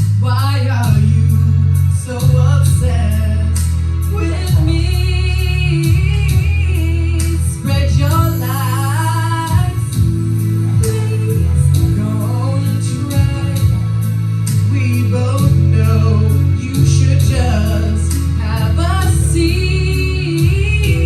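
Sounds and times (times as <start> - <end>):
music with heavy bass and singing: 0.0 - 21.0.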